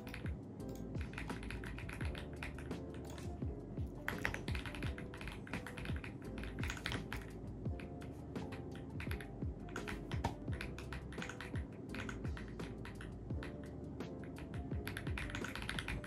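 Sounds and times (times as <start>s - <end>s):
background music with a beat: 0.0s - 16.0s.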